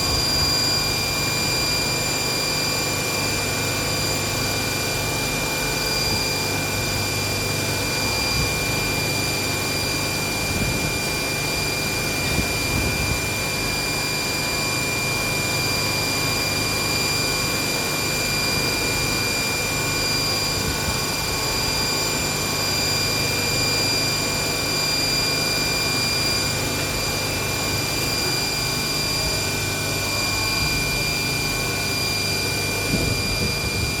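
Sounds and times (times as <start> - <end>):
machining centre whine: 0.0 - 34.0.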